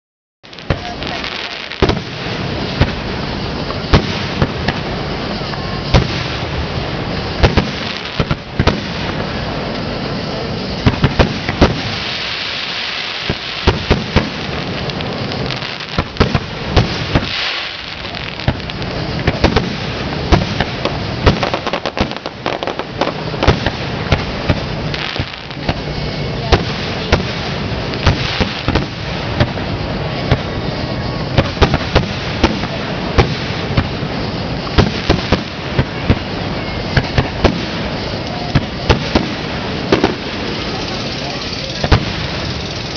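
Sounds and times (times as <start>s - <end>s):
fireworks launching and bursting: 0.4s - 42.9s.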